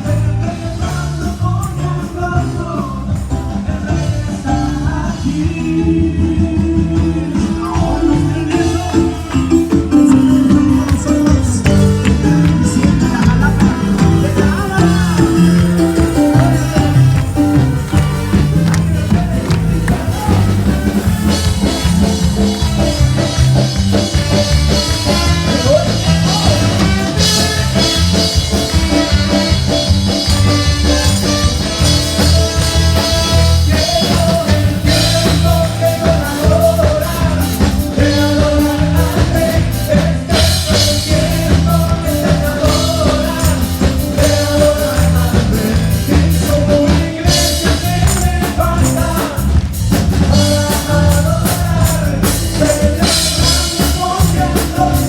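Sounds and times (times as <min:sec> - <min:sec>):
bass: 0:00.0 - 0:55.0
drum kit beat: 0:00.0 - 0:55.0
live band music: 0:00.0 - 0:55.0.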